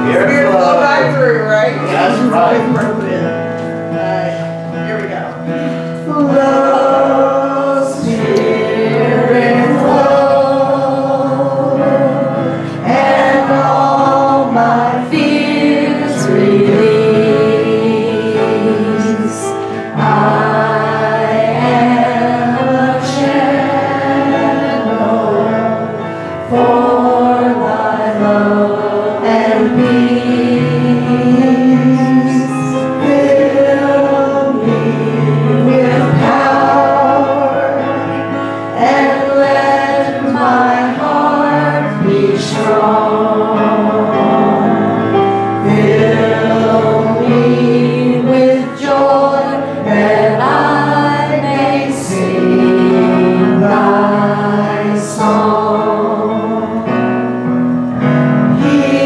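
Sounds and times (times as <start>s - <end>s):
congregation singing: 0.0s - 59.0s
electric piano chords: 0.0s - 59.0s.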